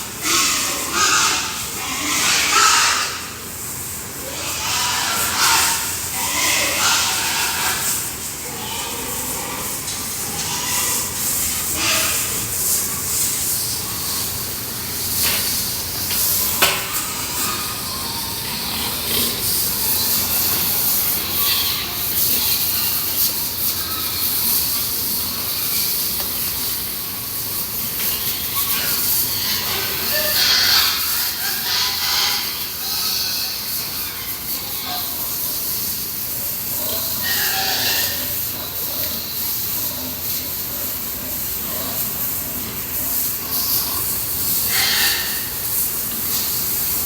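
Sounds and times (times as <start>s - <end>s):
water spraying from a hose: 0.0s - 47.0s.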